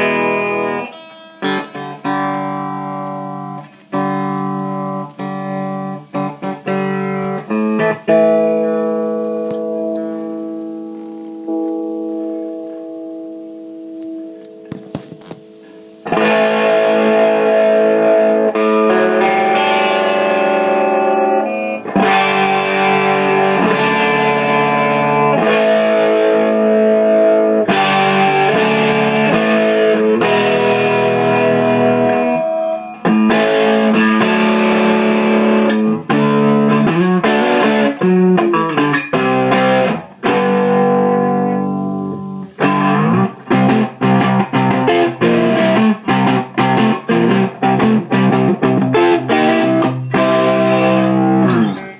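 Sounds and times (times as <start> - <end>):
distorted electric guitar chords: 0.0 - 51.9.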